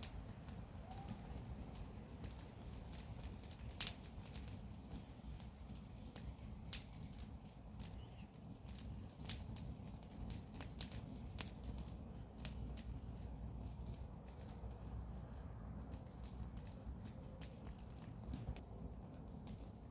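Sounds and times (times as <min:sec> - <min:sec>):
fire popping and snapping: 0:00.0 - 0:19.9
low rumble of burning: 0:00.0 - 0:19.9.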